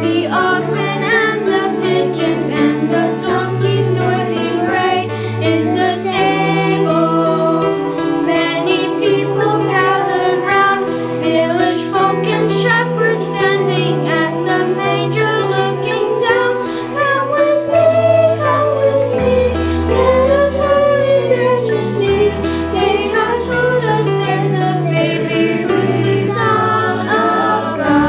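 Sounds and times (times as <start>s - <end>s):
choir singing: 0.0s - 28.0s
low held accompaniment notes: 0.0s - 28.0s.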